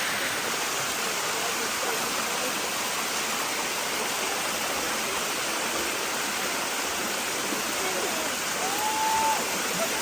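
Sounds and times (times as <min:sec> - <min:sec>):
waterfall rushing water: 0:00.0 - 0:10.0.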